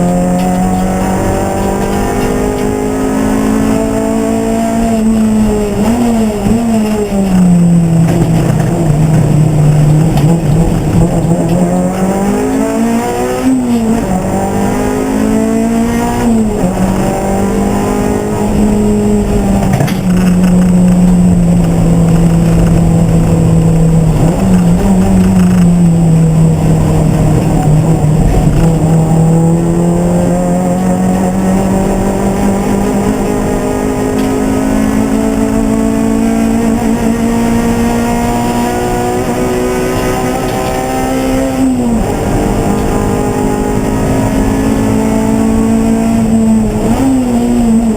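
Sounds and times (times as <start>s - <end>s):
racing car engine revving: 0.0s - 47.9s.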